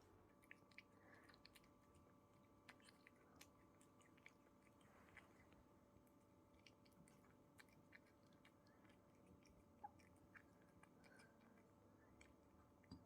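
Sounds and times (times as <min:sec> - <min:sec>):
chewing crunches: 0:00.0 - 0:13.0
faint steady hum: 0:00.0 - 0:13.0.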